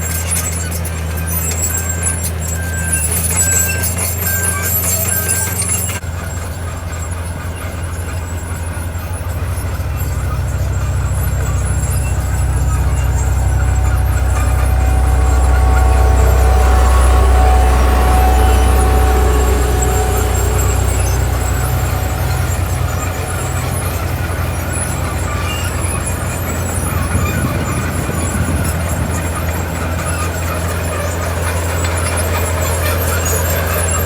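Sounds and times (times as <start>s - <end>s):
heavy machinery diesel engine: 0.0s - 34.0s
reversing alarm beeping: 0.0s - 34.0s.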